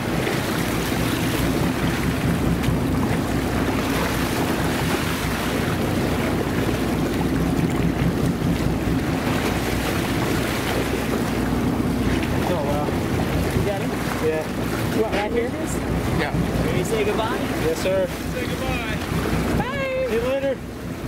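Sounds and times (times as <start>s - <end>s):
boat engine running: 0.0s - 21.0s
rushing water: 0.0s - 21.0s
wind buffeting microphone: 0.0s - 21.0s.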